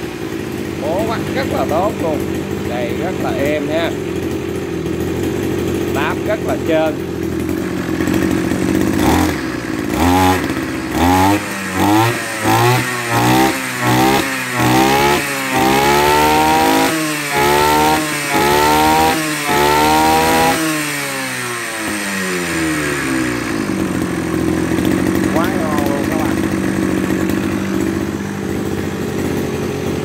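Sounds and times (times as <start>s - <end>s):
brush cutter engine revving: 0.0s - 30.0s.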